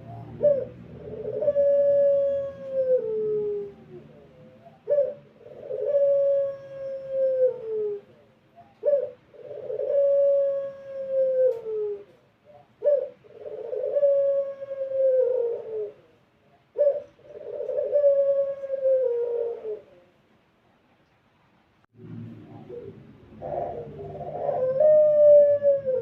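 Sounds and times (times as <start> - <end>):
dove cooing: 0.0 - 20.2, 22.4 - 26.0.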